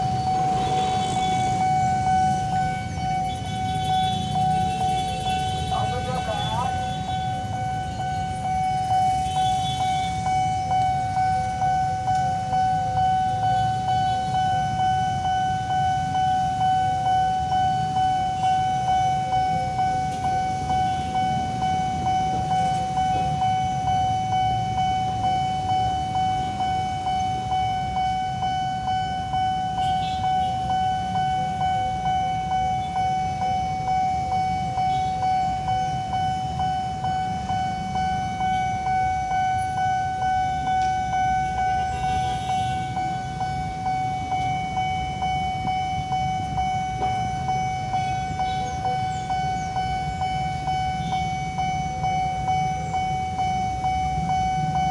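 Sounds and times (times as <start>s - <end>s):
level crossing bell ringing: 0.0s - 54.9s.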